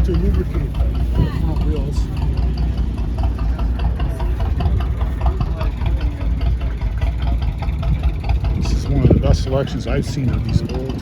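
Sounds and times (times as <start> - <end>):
engine idling with rapid knocking: 0.0 - 11.0
faint voices: 0.0 - 11.0.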